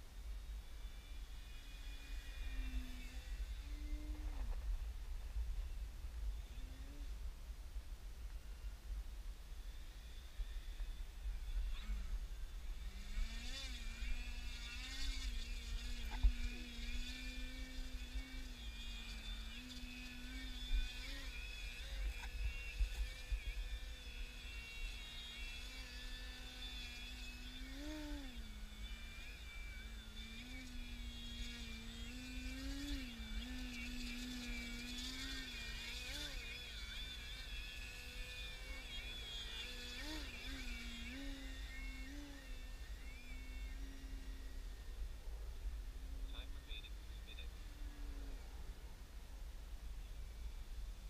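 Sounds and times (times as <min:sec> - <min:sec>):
electric motor and propeller buzzing: 0:00.0 - 0:51.0.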